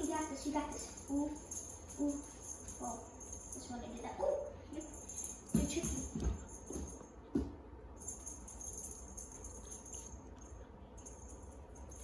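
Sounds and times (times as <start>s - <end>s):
toy jingling and rattling: 0.0s - 7.0s, 8.0s - 12.0s.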